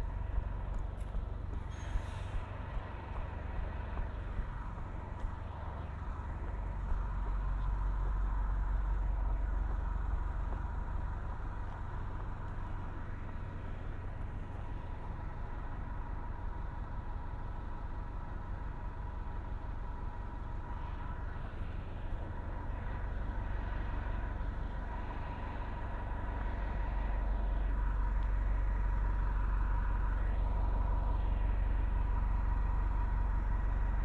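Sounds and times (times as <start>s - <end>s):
bus engine idling: 0.0s - 34.0s
thin steady whine: 0.0s - 34.0s.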